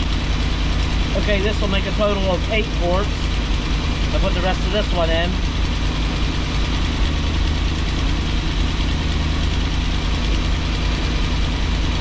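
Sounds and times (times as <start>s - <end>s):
engine idling up close: 0.0s - 12.0s.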